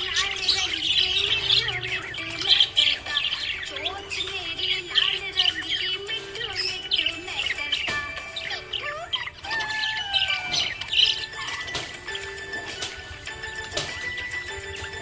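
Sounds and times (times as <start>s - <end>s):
background music: 0.0s - 15.0s
parrots chirping and twittering: 0.0s - 15.0s.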